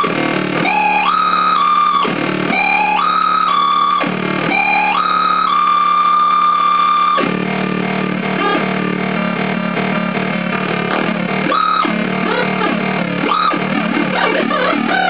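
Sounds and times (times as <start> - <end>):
buzzy synthesizer tone: 0.0 - 15.0.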